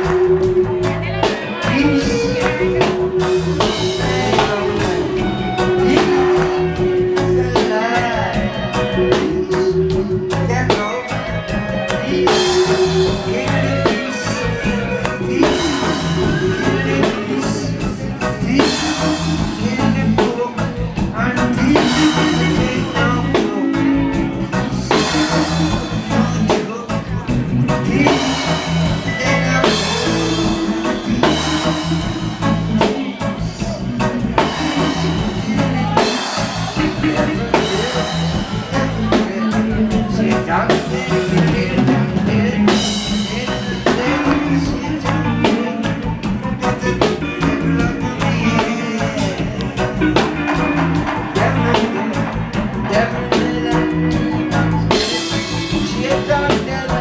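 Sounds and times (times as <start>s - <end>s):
deep bass line: 0.0s - 57.0s
drum beat: 0.0s - 57.0s
man singing into a microphone: 0.0s - 57.0s
reggae band playing: 0.0s - 57.0s.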